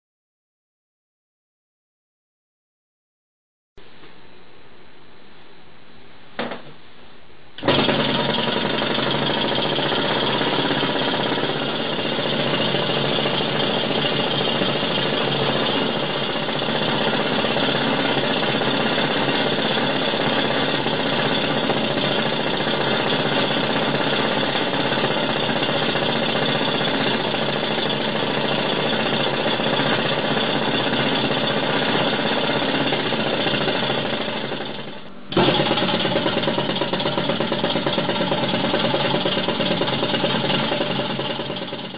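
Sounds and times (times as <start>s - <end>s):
engine running: 7.6s - 41.9s.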